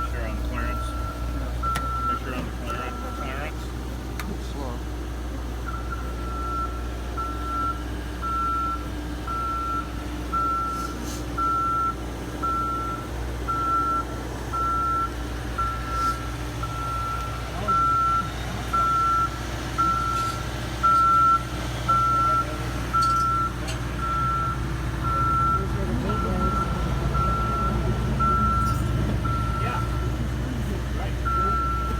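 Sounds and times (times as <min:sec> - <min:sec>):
motion alarm beeping: 0:00.0 - 0:03.6, 0:05.6 - 0:30.2, 0:31.2 - 0:31.9
engine humming: 0:00.0 - 0:31.9.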